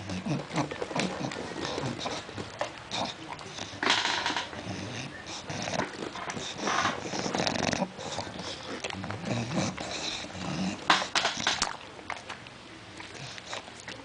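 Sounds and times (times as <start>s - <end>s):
dog snoring: 0.0s - 11.6s.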